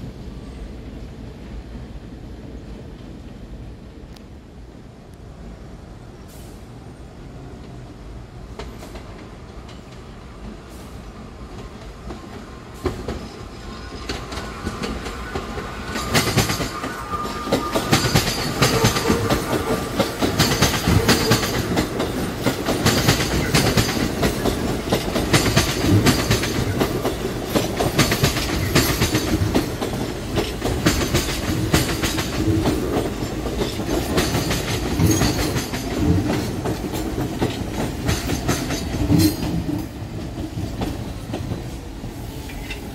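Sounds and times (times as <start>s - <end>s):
subway train rumbling past: 0.0s - 42.9s
train whine: 0.0s - 42.9s.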